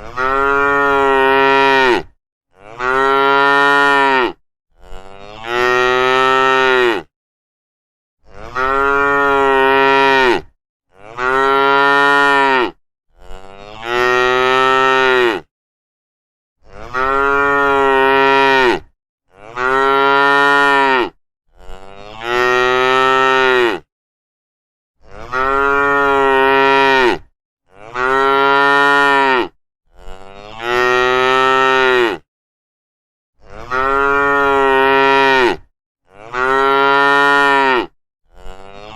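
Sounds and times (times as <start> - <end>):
cows mooing: 0.0 - 7.1, 8.2 - 15.5, 16.8 - 23.8, 25.1 - 32.2, 33.5 - 38.9.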